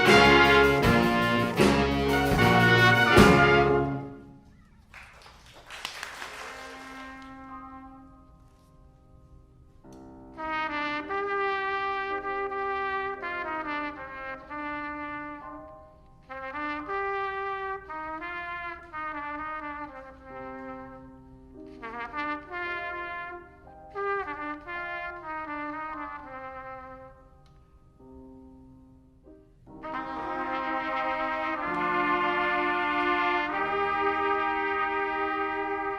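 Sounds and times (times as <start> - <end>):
brass instruments playing: 0.0 - 4.5, 6.6 - 8.5, 10.3 - 15.7, 16.3 - 27.4, 29.7 - 35.9.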